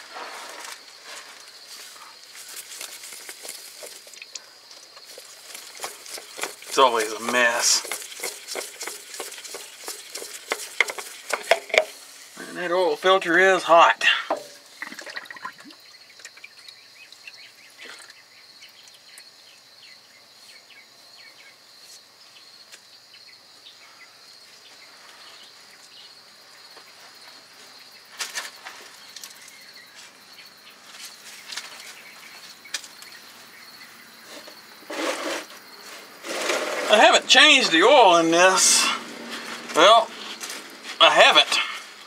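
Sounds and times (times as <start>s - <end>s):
high insect chirping: 0.0s - 42.0s.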